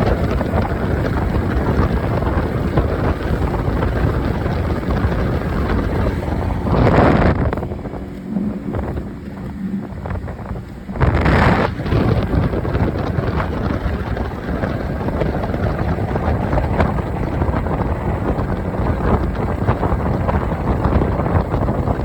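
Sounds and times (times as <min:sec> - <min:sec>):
outboard motor running: 0:00.0 - 0:22.0
wind buffeting microphone: 0:00.0 - 0:22.0.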